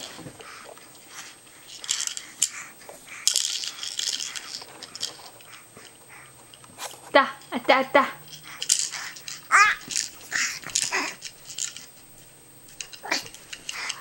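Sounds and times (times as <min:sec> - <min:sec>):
baby chewing and sucking: 0:00.0 - 0:07.1, 0:08.4 - 0:12.2, 0:12.8 - 0:14.0.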